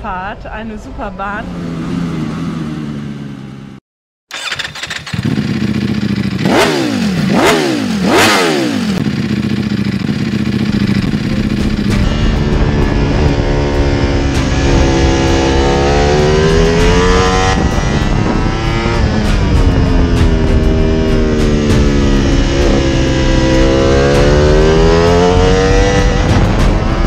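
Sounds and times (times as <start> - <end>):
motorcycle engine revving: 1.2 - 27.0.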